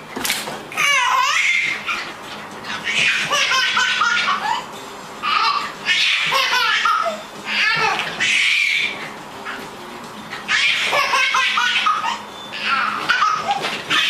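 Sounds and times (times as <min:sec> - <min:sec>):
baby laughing: 0:00.8 - 0:09.6, 0:10.4 - 0:14.0.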